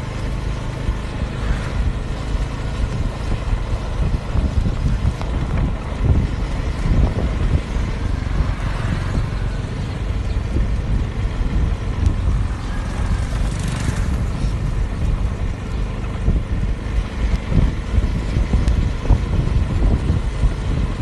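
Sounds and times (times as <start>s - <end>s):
vehicle engine and road rumble: 0.0s - 21.0s
wind buffeting on microphone: 0.0s - 21.0s.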